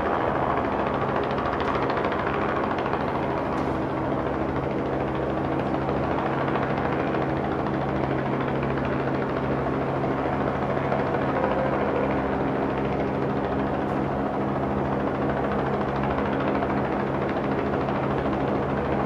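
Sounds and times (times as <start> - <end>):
large engine droning: 0.0 - 19.0.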